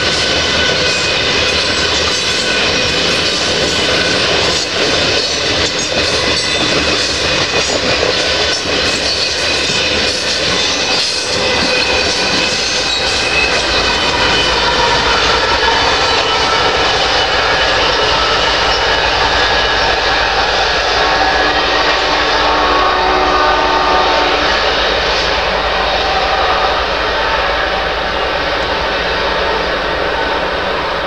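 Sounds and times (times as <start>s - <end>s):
diesel locomotive engine drone: 0.0s - 31.0s
train wheels rushing on rails: 0.0s - 31.0s.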